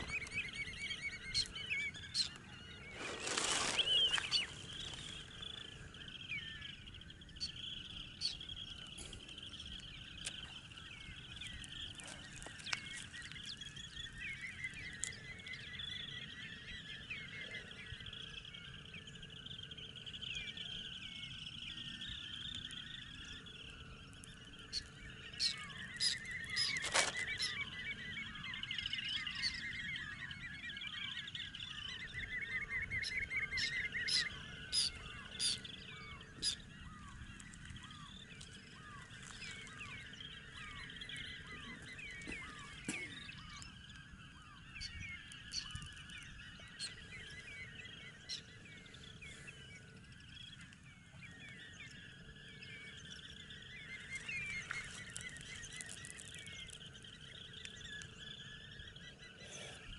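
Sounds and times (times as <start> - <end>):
sharp loud bird calls: 0.0 - 59.9
shorebirds trilling and chirping: 0.0 - 59.9.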